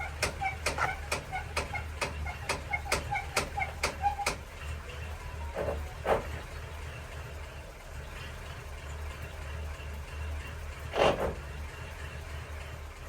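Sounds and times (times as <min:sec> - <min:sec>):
car engine idling low: 0:00.0 - 0:13.0.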